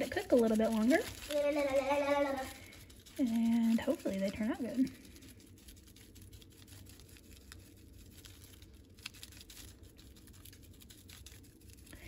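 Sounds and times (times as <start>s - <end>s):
paper packet crinkling: 0.0s - 12.0s
seasoning pattering onto food: 0.0s - 12.0s.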